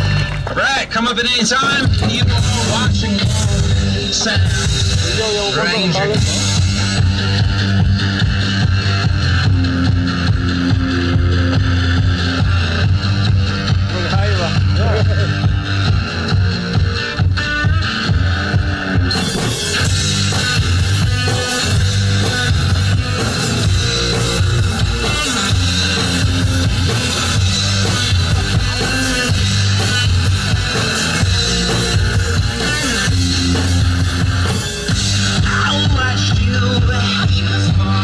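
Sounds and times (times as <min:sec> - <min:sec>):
drum kit: 0:00.0 - 0:00.6, 0:01.4 - 0:38.0
bass guitar: 0:00.0 - 0:38.0
electric guitar: 0:01.6 - 0:38.0.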